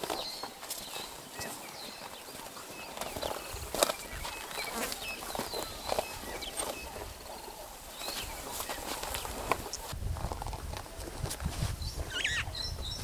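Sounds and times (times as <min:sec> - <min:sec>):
animals tearing and crunching grass: 0:00.0 - 0:11.6.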